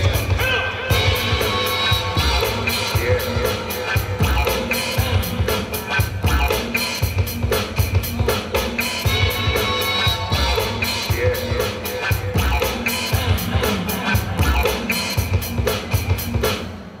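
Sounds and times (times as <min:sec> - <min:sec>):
hip-hop breakbeat music: 0:00.0 - 0:17.0.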